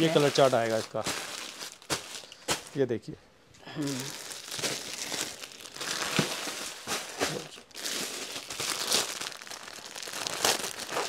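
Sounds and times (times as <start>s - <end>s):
plastic packets crinkling: 0.0s - 2.8s, 3.8s - 11.0s.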